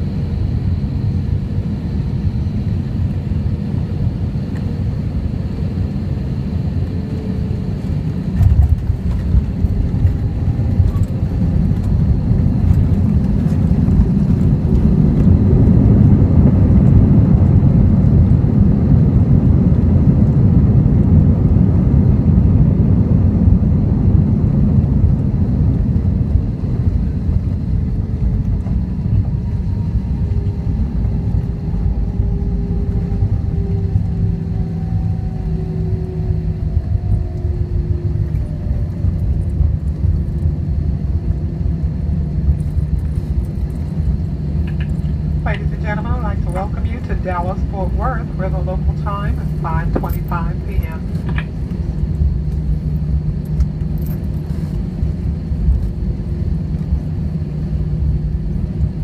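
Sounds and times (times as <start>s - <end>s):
plane roll-out rumble: 0.0s - 59.0s.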